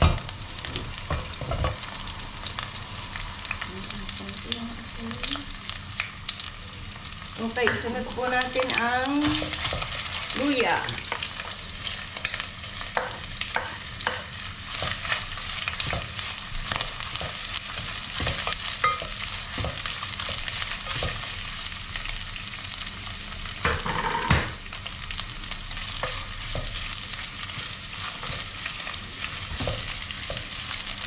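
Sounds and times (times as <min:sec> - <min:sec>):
onions sizzling in oil: 0:00.0 - 0:31.0.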